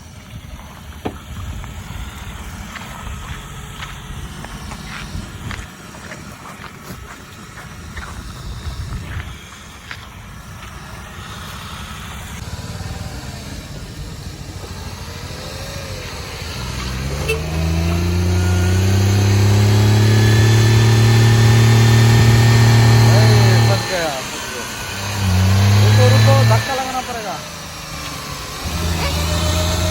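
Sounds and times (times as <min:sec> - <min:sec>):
car engine revving: 0:00.0 - 0:29.9.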